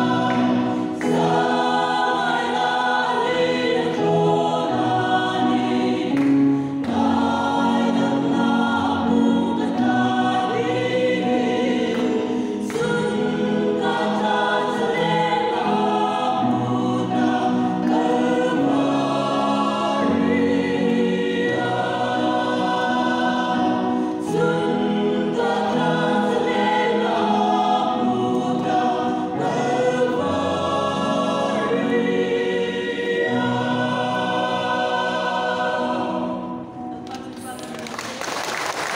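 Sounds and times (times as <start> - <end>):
choir singing a hymn: 0.0 - 37.4.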